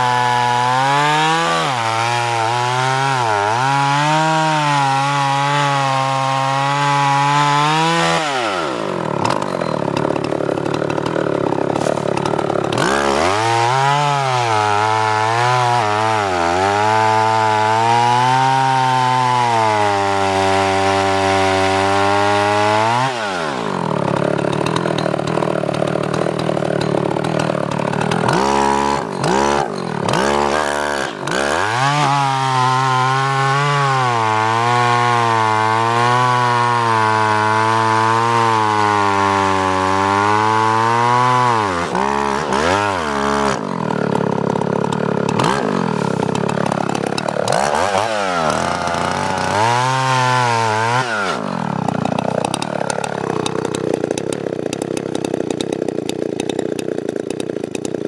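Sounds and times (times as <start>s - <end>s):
chainsaw revving and cutting log: 0.0s - 58.0s.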